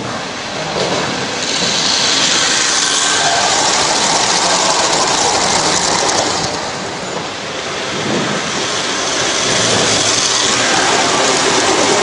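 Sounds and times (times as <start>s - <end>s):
model train wheels clattering on rails: 0.8s - 7.3s, 8.1s - 12.0s.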